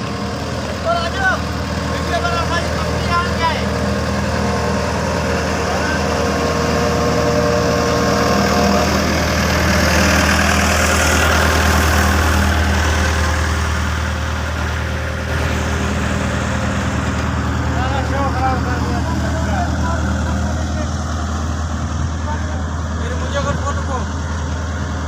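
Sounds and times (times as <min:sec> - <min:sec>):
paving machine engine humming: 0:00.0 - 0:25.0.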